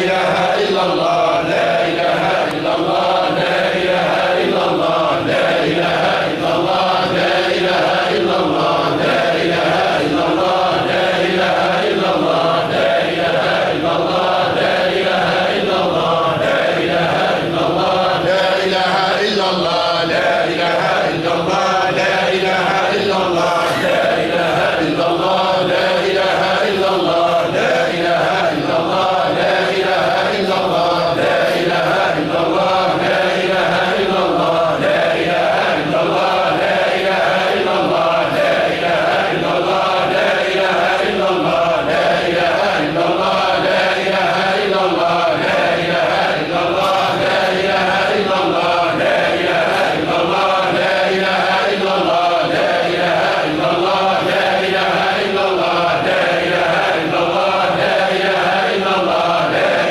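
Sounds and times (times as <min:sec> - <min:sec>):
men chanting in unison: 0:00.0 - 0:59.9.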